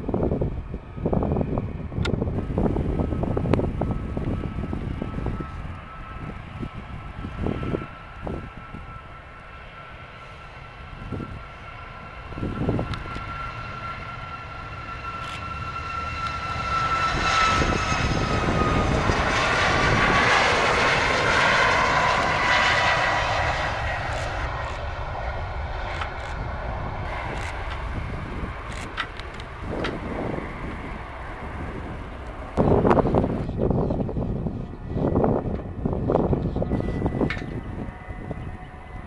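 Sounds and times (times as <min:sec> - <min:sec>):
jet taking off: 0:00.0 - 0:39.0.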